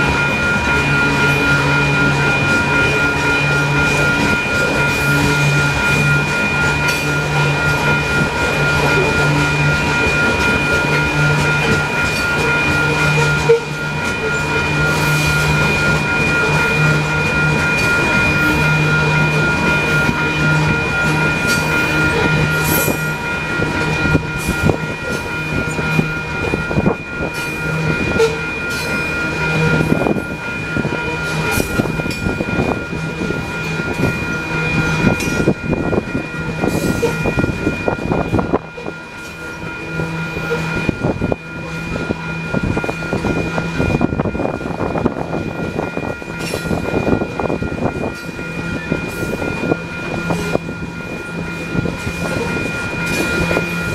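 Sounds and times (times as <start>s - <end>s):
crossing warning bell: 0.0s - 53.9s
train cars rumbling on rails: 0.0s - 53.9s.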